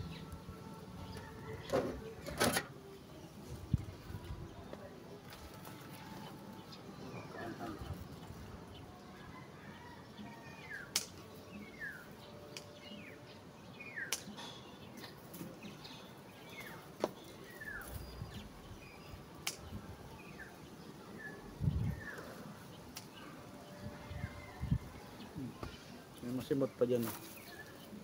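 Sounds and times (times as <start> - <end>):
birds chirping: 0.0 - 28.0
faint outdoor background: 0.0 - 28.0.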